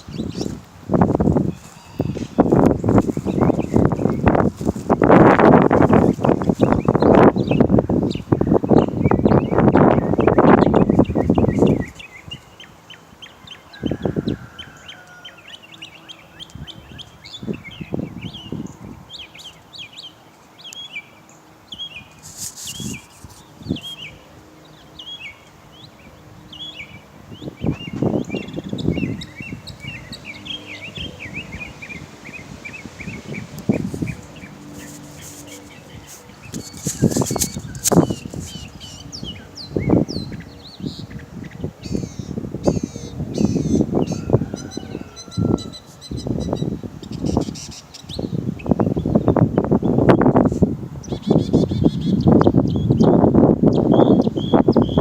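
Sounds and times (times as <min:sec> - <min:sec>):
bird singing high chirps: 0:01.4 - 0:04.4, 0:05.8 - 0:50.3, 0:51.0 - 0:55.0.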